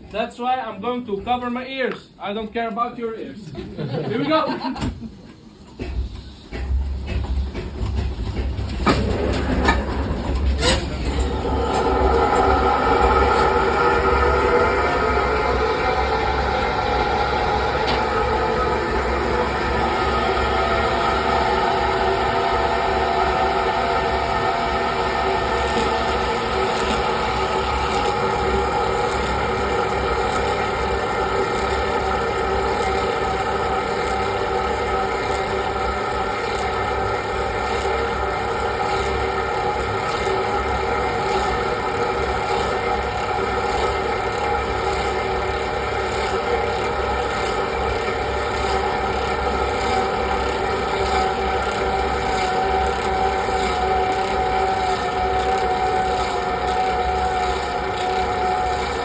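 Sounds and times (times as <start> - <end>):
lathe whine: 3.5 - 59.0.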